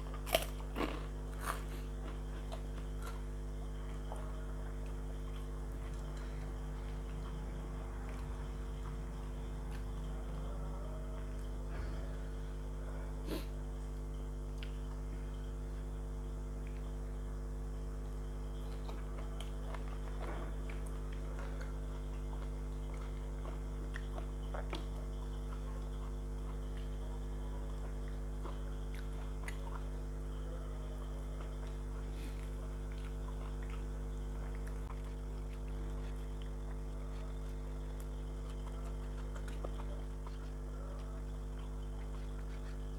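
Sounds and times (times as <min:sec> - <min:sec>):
food being chewed: 0:00.0 - 0:42.9
steady low hum: 0:00.0 - 0:42.9.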